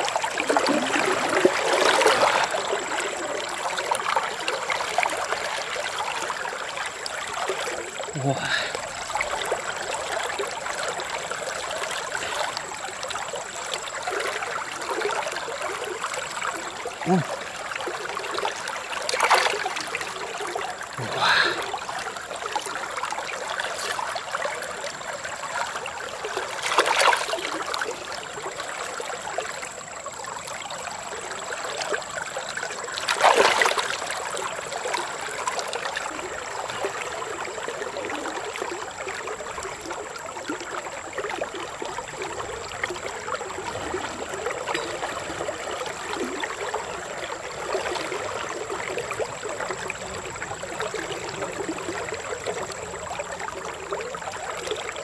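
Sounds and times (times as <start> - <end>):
river running: 0.0 - 55.0
water splashes: 0.0 - 55.0.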